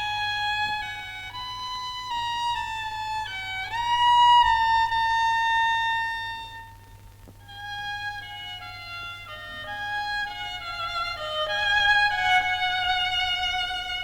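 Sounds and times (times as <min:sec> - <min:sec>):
solo violin melody: 0:00.0 - 0:14.0.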